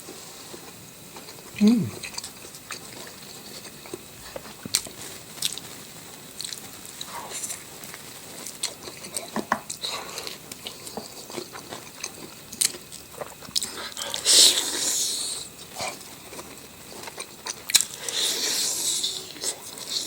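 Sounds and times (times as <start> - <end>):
person chewing food: 0.5 - 20.0.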